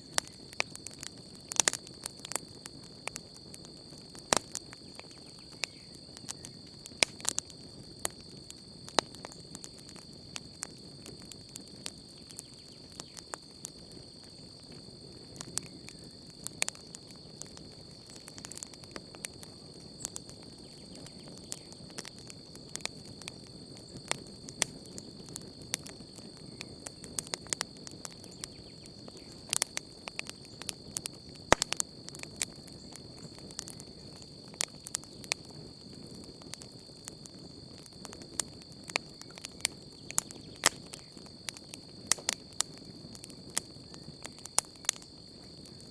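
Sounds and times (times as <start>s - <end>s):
campfire crackling and popping: 0.0s - 45.9s.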